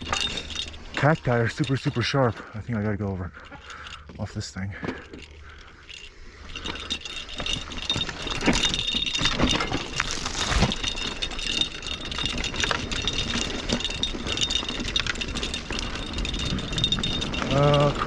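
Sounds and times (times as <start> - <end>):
mountain bike rattling over rocks: 0.0 - 18.0.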